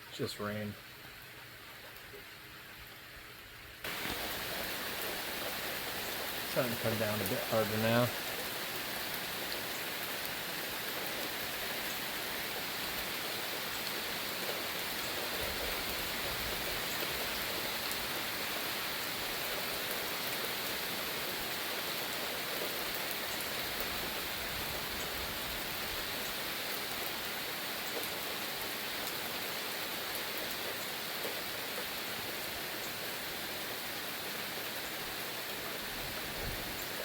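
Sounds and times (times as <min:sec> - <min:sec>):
heavy steady rain: 0:00.0 - 0:37.0.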